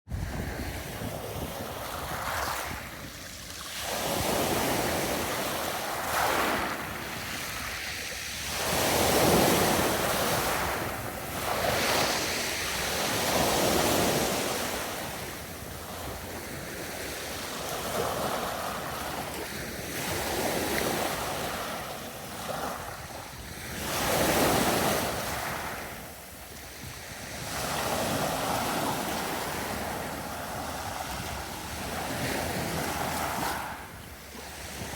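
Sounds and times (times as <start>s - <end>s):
waves breaking on beach: 0.1s - 34.9s
wind on microphone: 0.1s - 34.9s.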